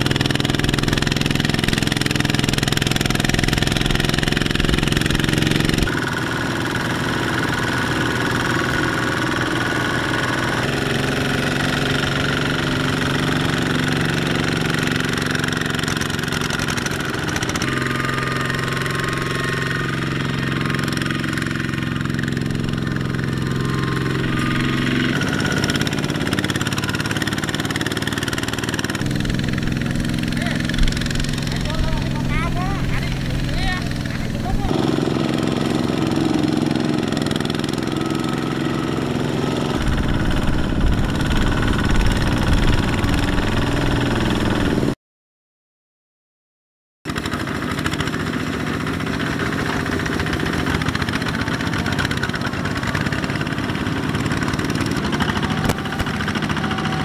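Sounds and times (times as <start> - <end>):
diesel engine running under load: 0.0 - 45.0, 47.1 - 57.0.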